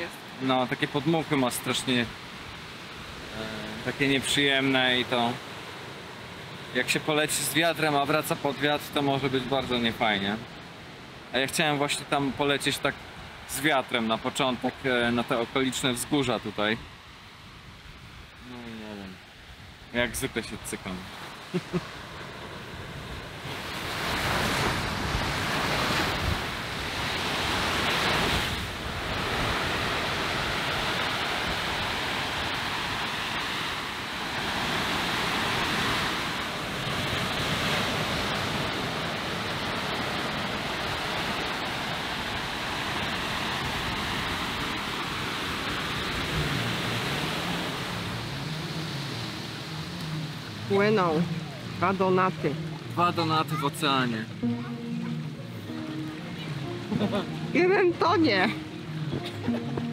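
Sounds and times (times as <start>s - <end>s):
ocean surf breaking: 0.0s - 59.9s
wind: 0.0s - 59.9s.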